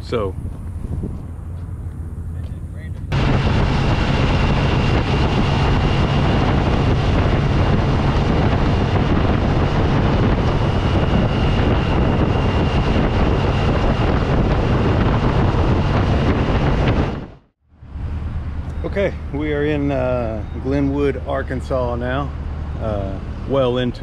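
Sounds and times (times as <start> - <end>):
motorcycle engine drone: 0.0 - 24.0
wind rushing over microphone: 0.0 - 24.0.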